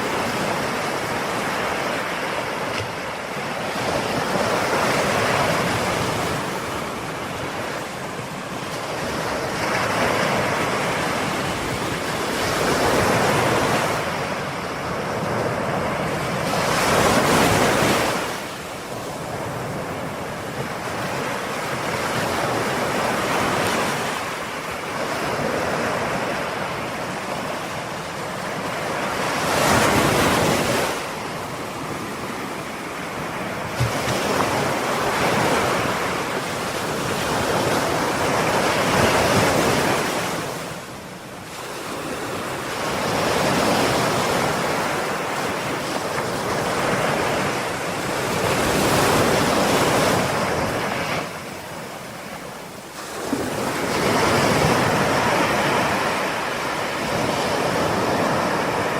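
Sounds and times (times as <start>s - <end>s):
waves breaking and washing in: 0.0s - 58.9s.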